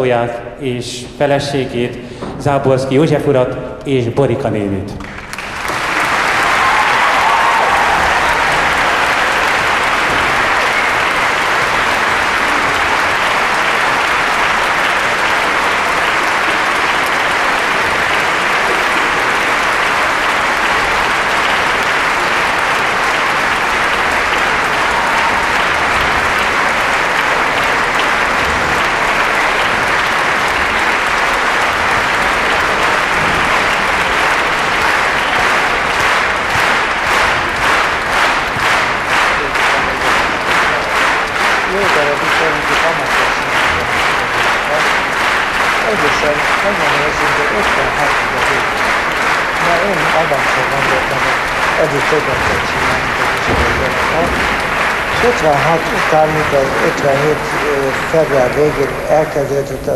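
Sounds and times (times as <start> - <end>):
audience applauding: 5.0 - 59.9.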